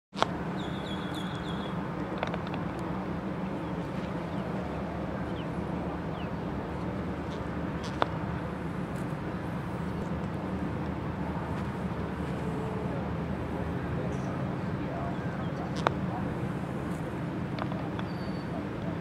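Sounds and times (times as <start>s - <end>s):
low background rumble: 0.2s - 19.0s.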